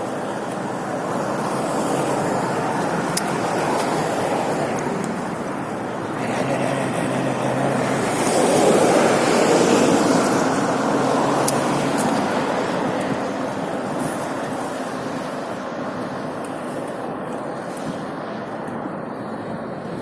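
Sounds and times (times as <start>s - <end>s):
low engine hum: 0.0s - 20.0s
traffic noise: 0.0s - 20.0s
wind noise on microphone: 0.0s - 20.0s.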